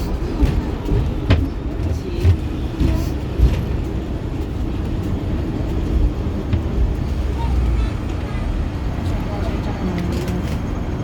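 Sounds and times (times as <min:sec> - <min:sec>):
tram knocks and rattles: 0:00.0 - 0:11.0
tram rumbling: 0:00.0 - 0:11.0.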